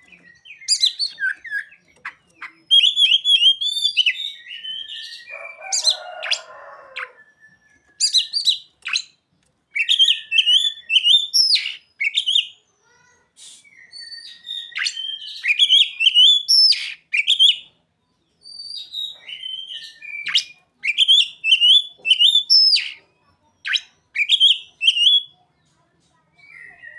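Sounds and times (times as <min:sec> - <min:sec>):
bird singing warbled phrases: 0:00.0 - 0:26.9.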